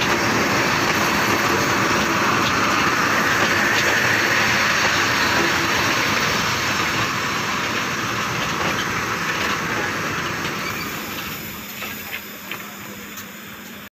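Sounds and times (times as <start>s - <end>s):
train wheels rumbling and clattering: 0.0s - 13.9s.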